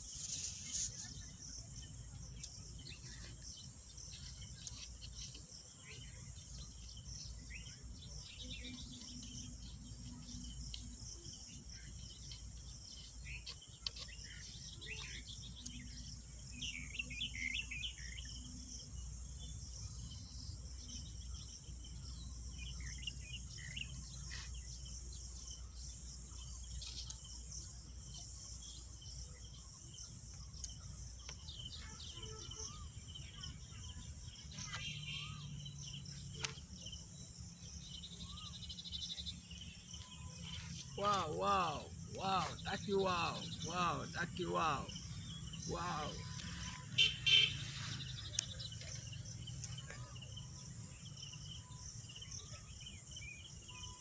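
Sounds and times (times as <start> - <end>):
birds chirping: 0.0 - 54.0
insects chirring: 0.0 - 54.0.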